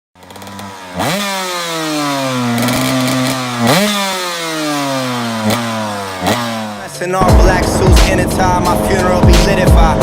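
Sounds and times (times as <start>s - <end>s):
two-stroke engine revving: 0.2s - 10.0s.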